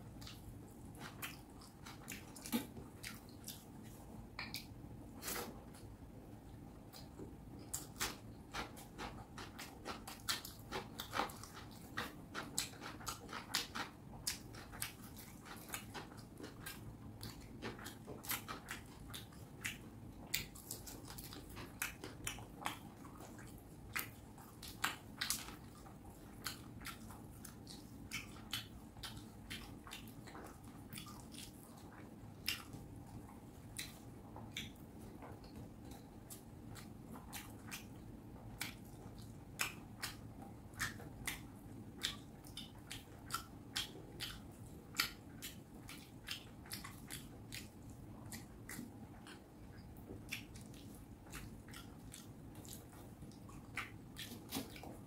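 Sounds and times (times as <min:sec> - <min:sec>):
wet chewing and mouth smacks: 0:00.0 - 0:55.0.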